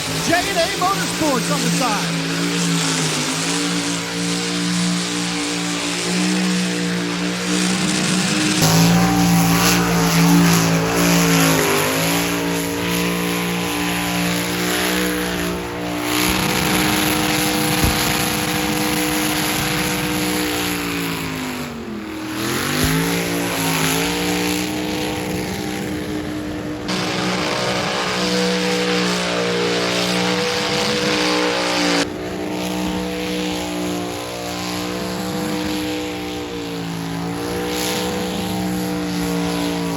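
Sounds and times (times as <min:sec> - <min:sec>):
car engine revving high: 0:00.0 - 0:39.9.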